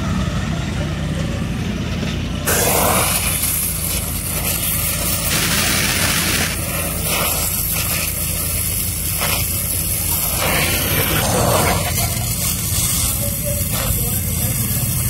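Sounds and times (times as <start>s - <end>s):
welding torch flame hissing: 2.4s - 15.0s.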